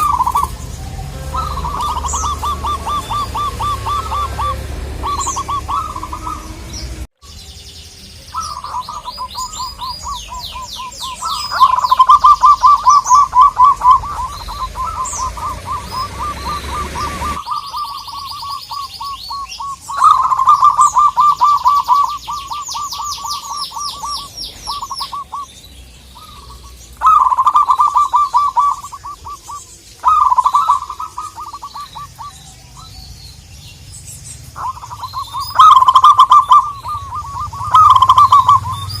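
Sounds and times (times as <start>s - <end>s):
doves cooing: 0.0s - 7.1s, 8.2s - 39.0s
bird chattering trill: 0.0s - 39.0s.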